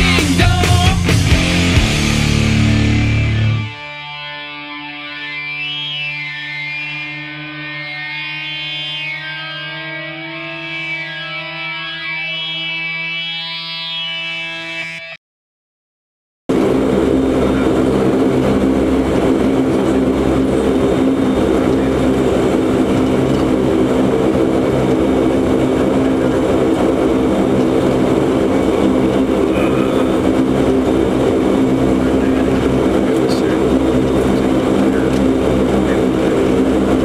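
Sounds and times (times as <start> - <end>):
turboprop engines droning: 0.0 - 15.2, 16.5 - 37.0.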